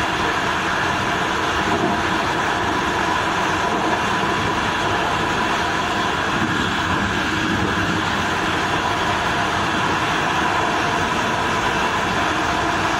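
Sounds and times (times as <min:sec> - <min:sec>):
train running at speed: 0:00.0 - 0:12.9.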